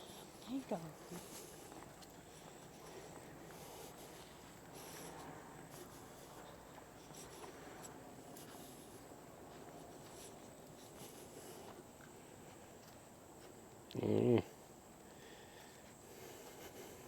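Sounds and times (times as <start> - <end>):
footsteps on sandy trail: 0.0 - 13.8.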